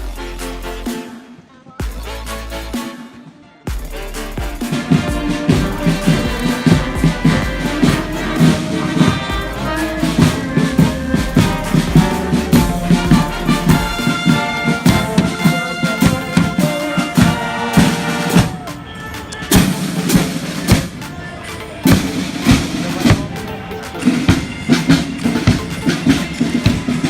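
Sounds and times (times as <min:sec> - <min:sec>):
brass and drums music: 0:00.0 - 0:27.0.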